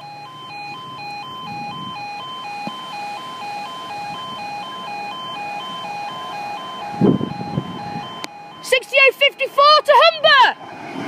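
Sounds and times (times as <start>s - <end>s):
level crossing alarm two-tone warble: 0.0s - 10.7s.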